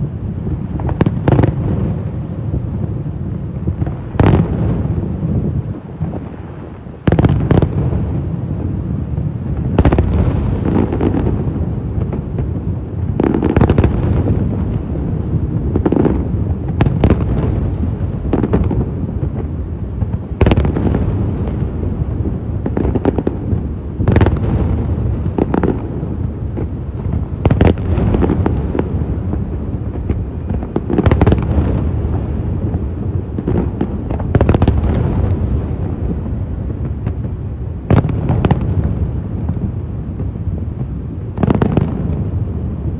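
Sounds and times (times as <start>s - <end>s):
fireworks bursting: 0.0s - 42.9s
low rumble and crackle: 0.0s - 42.9s.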